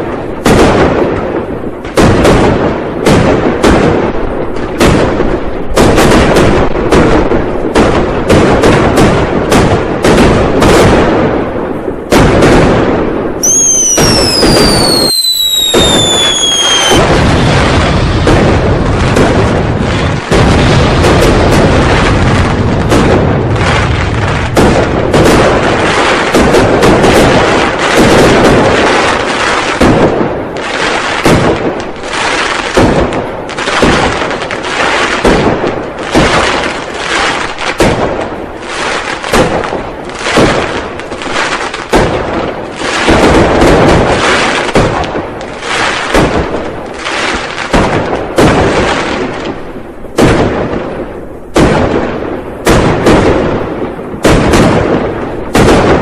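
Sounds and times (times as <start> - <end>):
rumble of firework booms: 0.0 - 38.6, 39.2 - 56.0
firecrackers banging: 0.0 - 56.0.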